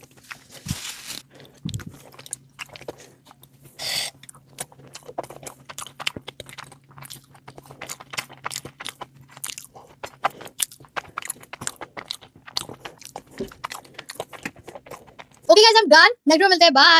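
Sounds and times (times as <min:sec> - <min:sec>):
person crunching and chewing food: 0:00.0 - 0:15.5.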